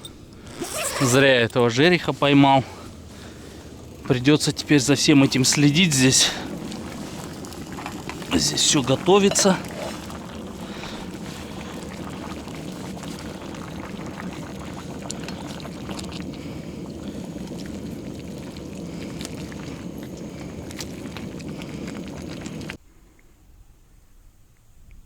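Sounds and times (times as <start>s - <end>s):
campfire crackles and pops: 0.2s - 22.8s
stew bubbling: 1.9s - 22.8s.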